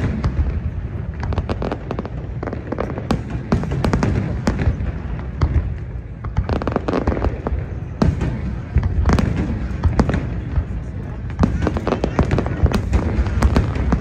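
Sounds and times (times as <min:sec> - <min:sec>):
fireworks booming: 0:00.0 - 0:14.0
fireworks cracks and pops: 0:00.0 - 0:14.0.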